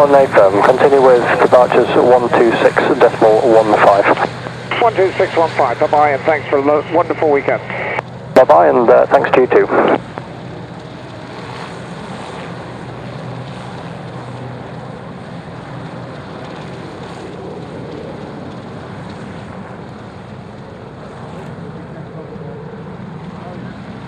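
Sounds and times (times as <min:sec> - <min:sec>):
aircraft engine noise: 0:00.0 - 0:24.0.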